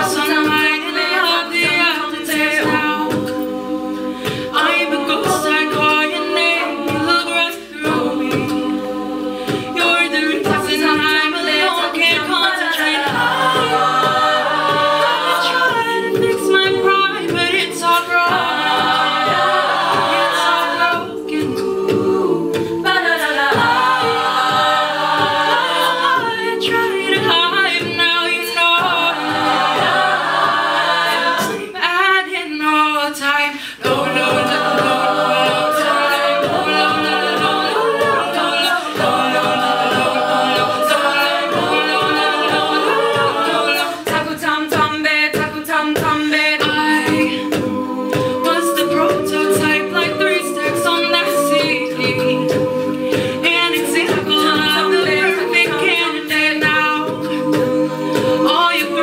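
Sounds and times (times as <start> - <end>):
a cappella group singing: 0.0 - 59.0
beatboxed vocal percussion: 0.0 - 59.0.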